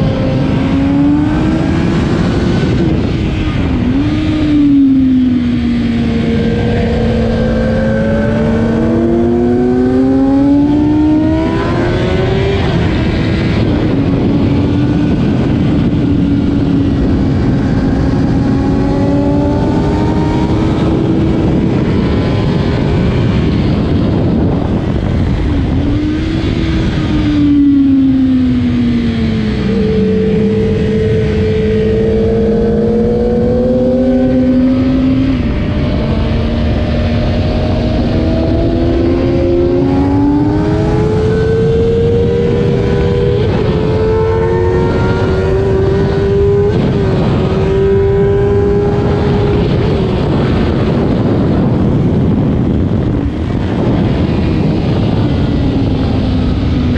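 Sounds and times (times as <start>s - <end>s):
motorcycle engine accelerating hard: 0.0s - 56.9s
wind noise: 0.0s - 56.9s.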